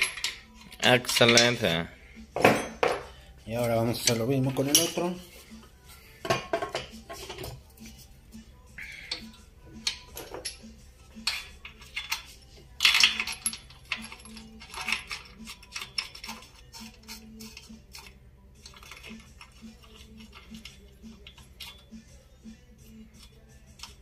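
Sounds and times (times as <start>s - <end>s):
metal tool clinking and clattering: 0.0s - 5.2s, 6.2s - 8.0s, 9.0s - 22.2s.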